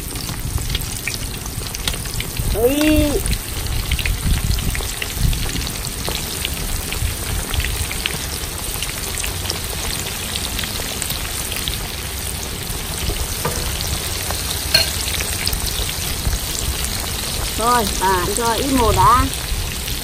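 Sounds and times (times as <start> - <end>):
food sizzling in a pan: 0.0 - 20.0
oil crackling and popping: 0.0 - 20.0.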